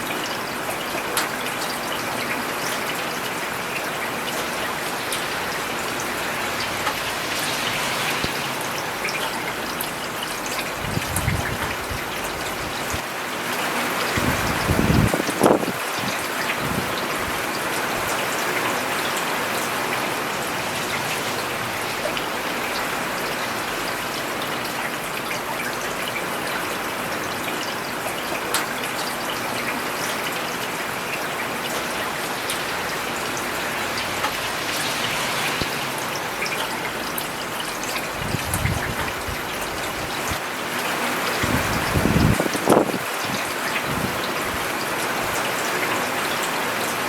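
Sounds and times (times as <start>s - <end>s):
rain on a paved road: 0.0s - 47.0s.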